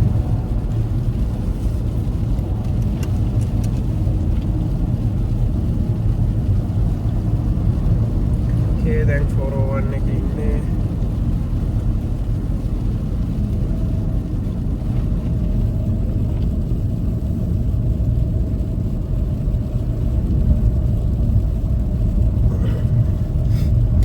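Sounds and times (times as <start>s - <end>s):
car road noise from inside: 0.0s - 24.0s.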